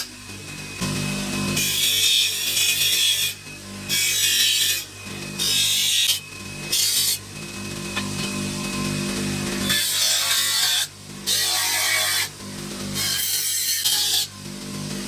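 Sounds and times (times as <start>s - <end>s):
power tool scraping workpiece: 0.0s - 15.0s
small power tool motor hum: 0.0s - 15.0s.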